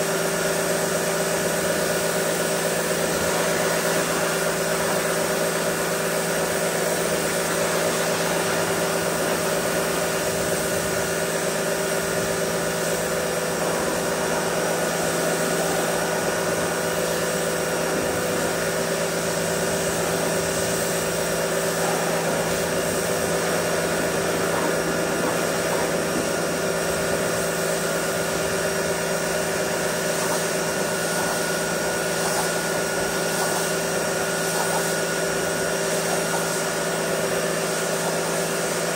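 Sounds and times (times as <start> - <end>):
pressure washer motor hum: 0.0 - 38.9
water jet hissing on tyre: 0.0 - 38.9.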